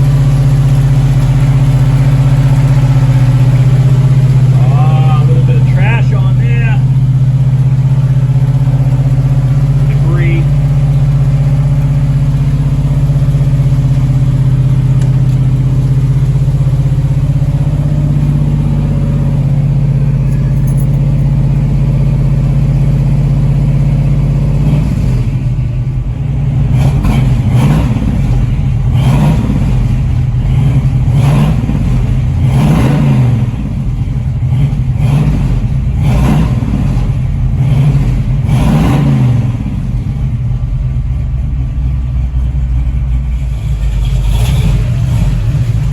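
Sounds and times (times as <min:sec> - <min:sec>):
car engine idling unevenly: 0:00.0 - 0:45.9.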